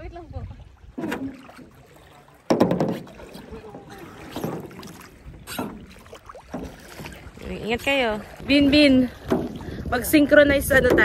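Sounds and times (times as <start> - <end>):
water sloshing around kayak: 0.0 - 11.0.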